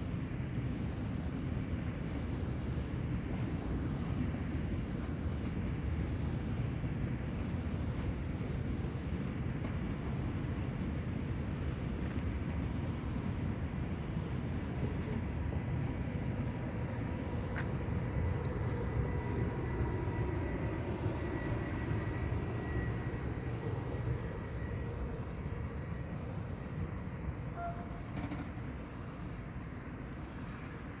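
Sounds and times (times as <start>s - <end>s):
train rumbling along tracks: 0.0s - 31.0s.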